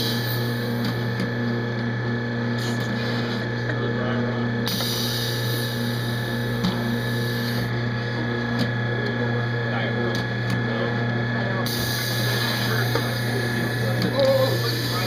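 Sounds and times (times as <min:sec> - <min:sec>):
conveyor machine humming: 0:00.0 - 0:15.0.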